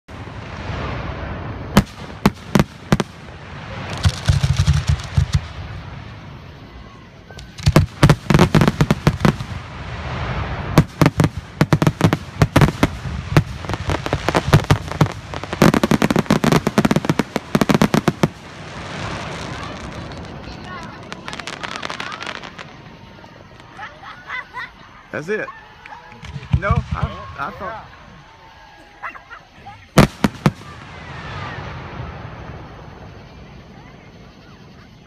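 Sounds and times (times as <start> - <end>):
fireworks bangs and crackling: 0.1 - 35.0.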